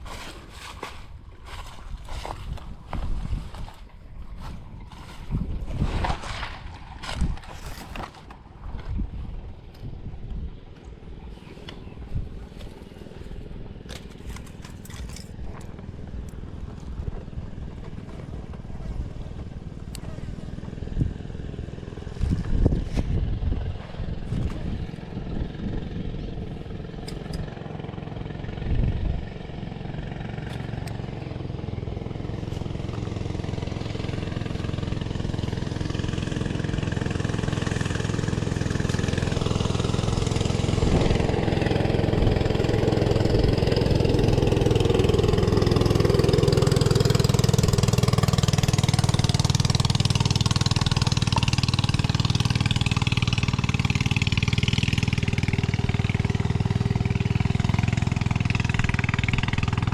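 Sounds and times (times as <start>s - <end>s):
motor engine running: 0.0s - 59.9s.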